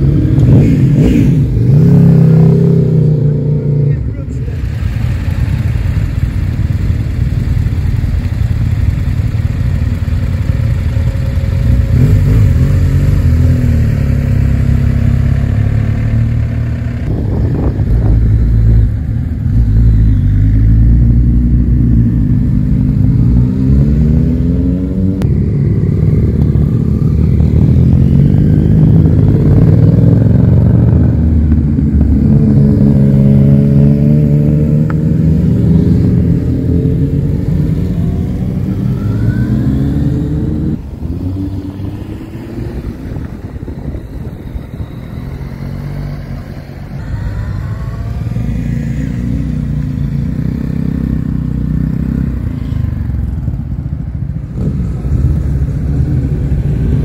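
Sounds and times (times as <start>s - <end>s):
motorcycles accelerating past: 10.4s - 57.0s.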